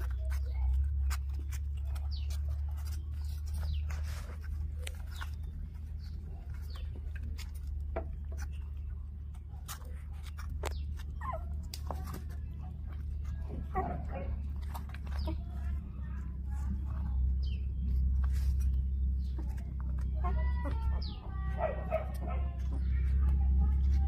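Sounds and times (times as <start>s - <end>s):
paws tapping on a bowl: 0.0s - 24.0s
puppies whimpering: 0.0s - 24.0s.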